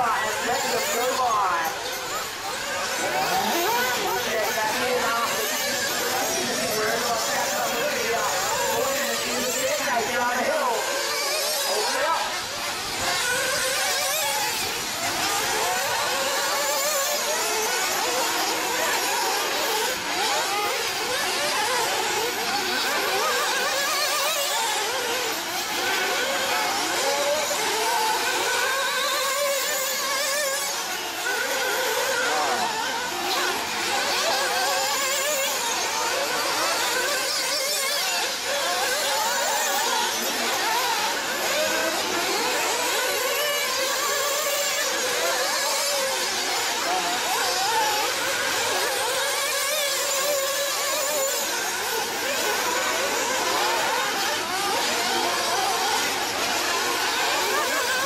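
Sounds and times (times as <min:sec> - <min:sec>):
rc car engines buzzing and revving: 0:00.0 - 0:58.0.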